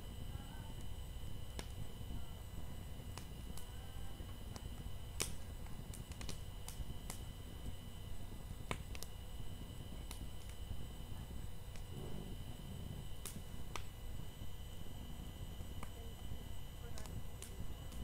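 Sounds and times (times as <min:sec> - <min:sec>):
bonfire crackling: 0:00.0 - 0:18.0
burning wood popping: 0:00.0 - 0:18.0
low rumble: 0:00.0 - 0:18.0.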